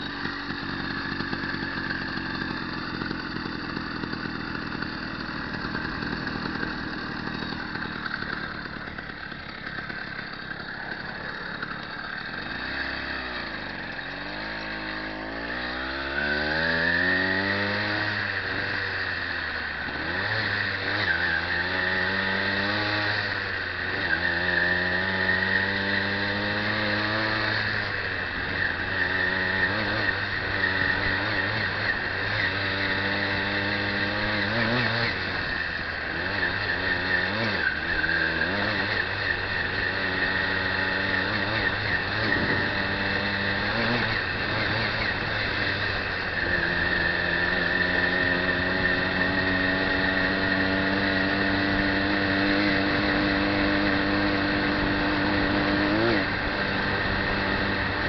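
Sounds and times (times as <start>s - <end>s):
motorbike motor humming: 0.0s - 58.0s
road and wind noise: 0.0s - 58.0s.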